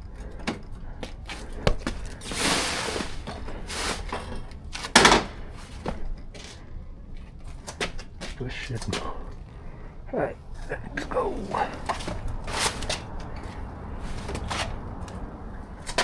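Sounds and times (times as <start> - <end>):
motorcycle cover rustling: 0.0 - 16.0.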